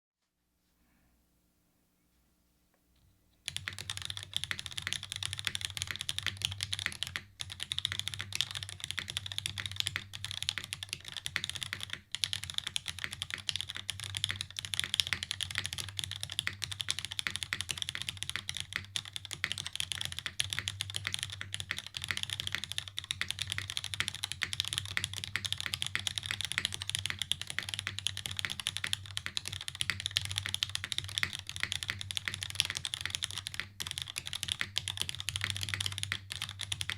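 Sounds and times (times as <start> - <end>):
fast typing on mechanical keyboard: 3.5 - 36.9.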